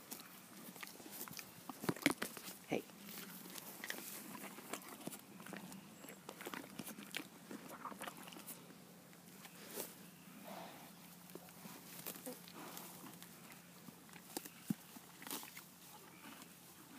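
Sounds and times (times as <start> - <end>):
dry grass crunching: 0.0 - 8.6, 11.1 - 16.8.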